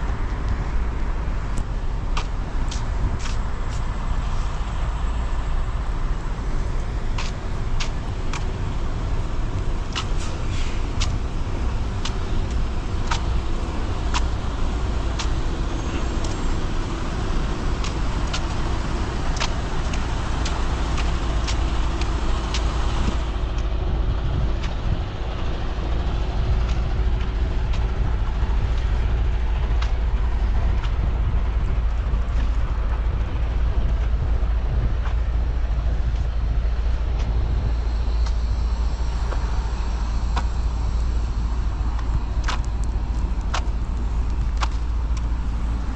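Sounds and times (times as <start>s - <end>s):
vehicle road noise rumble: 0.0s - 45.9s.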